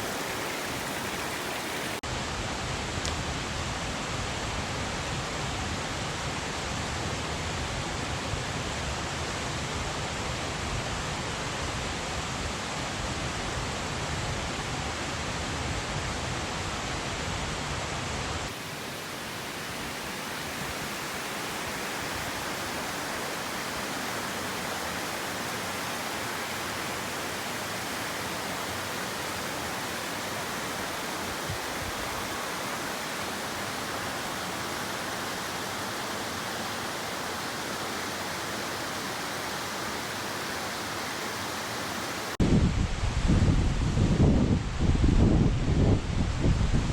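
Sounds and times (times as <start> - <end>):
small waterfall rushing: 0.0 - 42.4.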